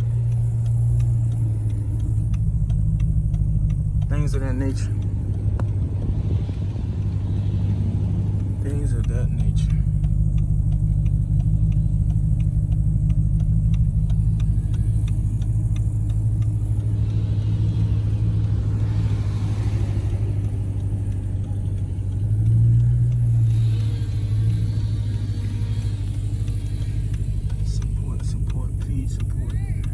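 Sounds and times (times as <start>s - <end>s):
car rumbling on road: 0.0s - 29.9s
faint fast ticking: 0.0s - 29.9s.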